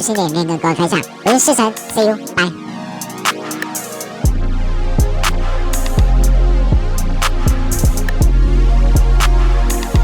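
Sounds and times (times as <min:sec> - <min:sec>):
electronic music: 0:00.0 - 0:10.0
heavy bass line with drum-machine beat: 0:00.0 - 0:10.0.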